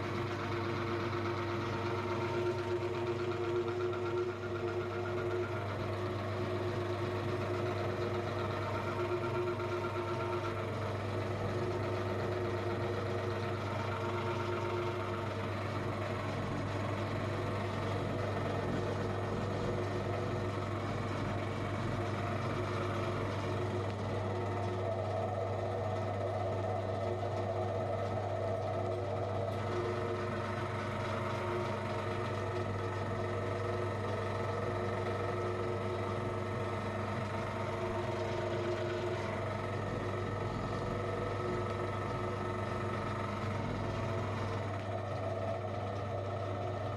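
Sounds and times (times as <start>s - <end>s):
meat grinder motor running: 0.0s - 46.9s.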